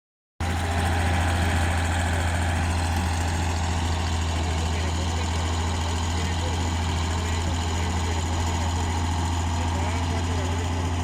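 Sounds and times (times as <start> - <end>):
bulldozer diesel engine idling: 0.4 - 11.0.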